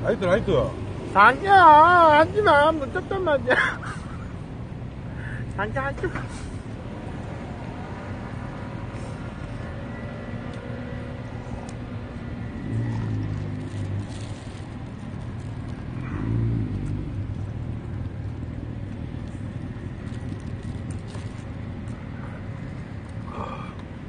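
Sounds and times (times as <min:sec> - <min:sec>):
passing vehicles engine hum: 0:00.0 - 0:24.0
road traffic rumble: 0:00.0 - 0:24.0.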